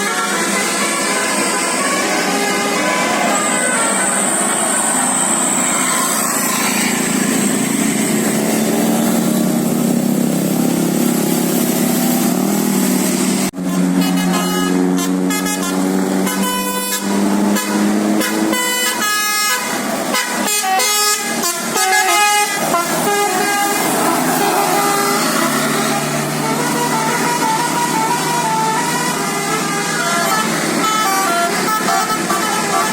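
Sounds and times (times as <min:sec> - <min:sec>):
bus musical horn playing a tune: 0:00.0 - 0:09.2, 0:13.5 - 0:32.9.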